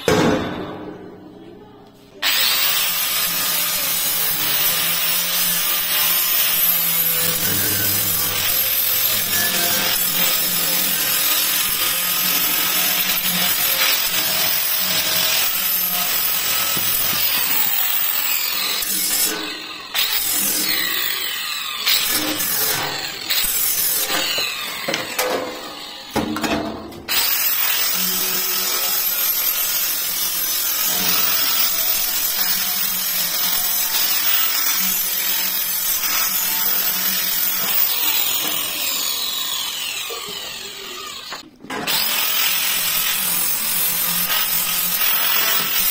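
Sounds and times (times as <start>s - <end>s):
angle grinder grinding metal: 2.2s - 26.2s, 27.1s - 45.9s.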